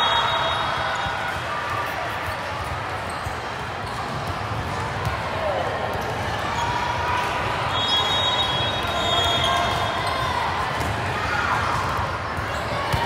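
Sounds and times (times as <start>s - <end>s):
crowd chattering: 0.0s - 13.0s.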